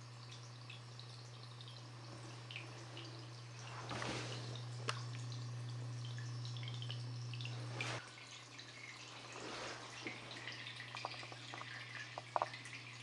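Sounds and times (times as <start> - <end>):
steady low hum: 0.0 - 13.0
water trickling and dripping: 0.0 - 13.0.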